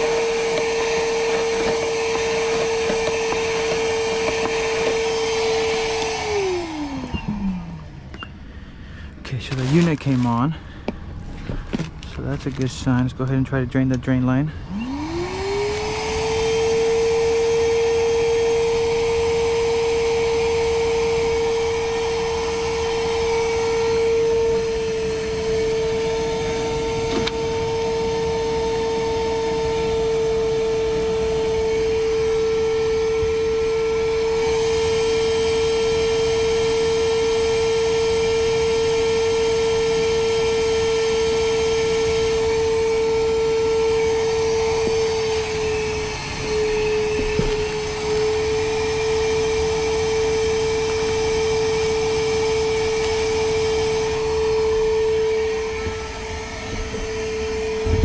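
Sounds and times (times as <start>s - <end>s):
vacuum running with whine: 0.0s - 58.0s.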